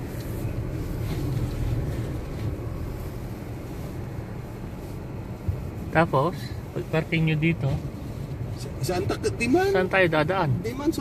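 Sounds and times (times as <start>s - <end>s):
car driving through snow: 0.0s - 11.0s.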